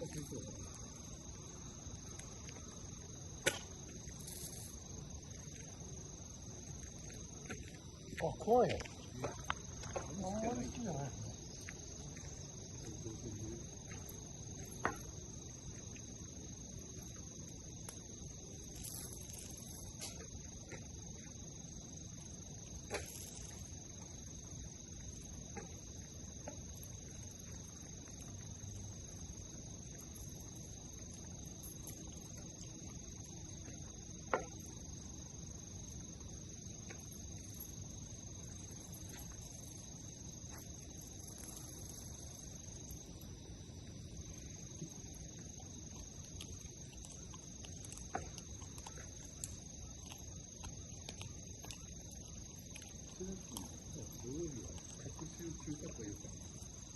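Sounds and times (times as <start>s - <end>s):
crickets trilling: 0.0s - 56.9s.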